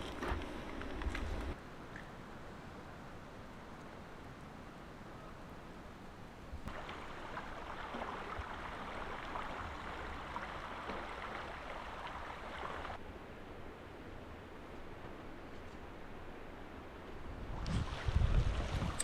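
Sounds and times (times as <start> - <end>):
running river water: 0.0 - 19.0.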